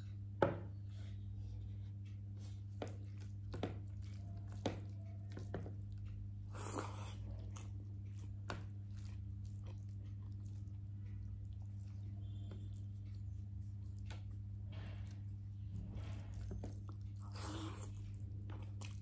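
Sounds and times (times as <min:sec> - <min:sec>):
steady low hum: 0:00.0 - 0:19.0
person chewing food: 0:01.7 - 0:19.0.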